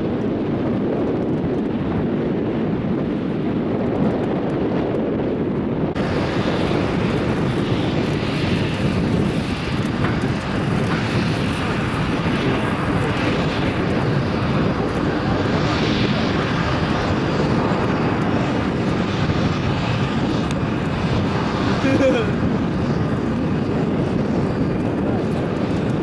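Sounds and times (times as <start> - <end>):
aircraft engine: 0.0 - 26.0.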